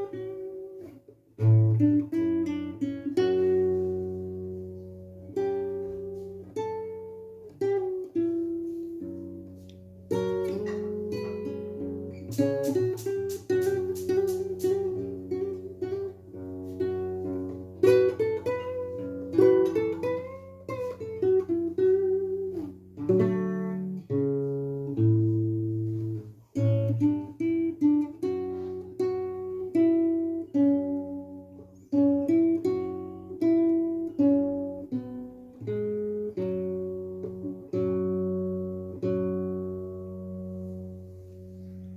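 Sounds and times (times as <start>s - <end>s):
classical guitar plucked notes: 0.0s - 41.9s.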